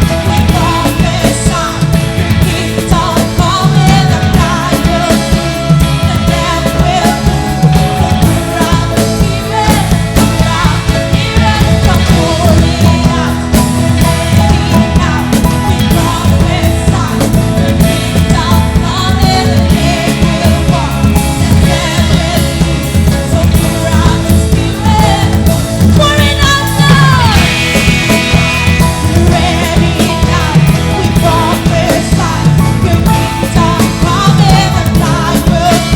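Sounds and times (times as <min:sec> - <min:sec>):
rock music with singing: 0:00.0 - 0:35.9.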